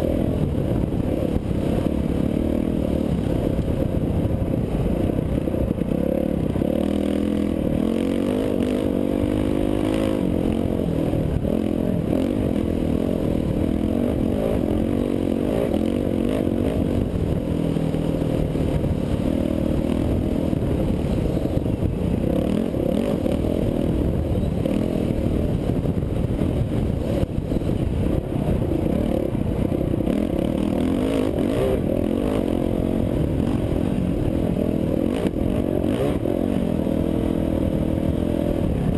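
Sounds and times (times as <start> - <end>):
dirt bike engine revving: 5.7 - 38.9.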